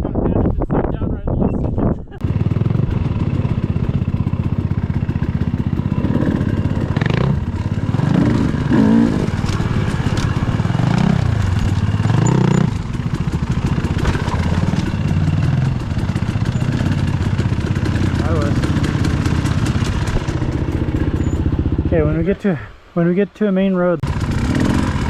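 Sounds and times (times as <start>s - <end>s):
dirt bike engine revving: 2.2s - 22.5s, 24.0s - 25.0s.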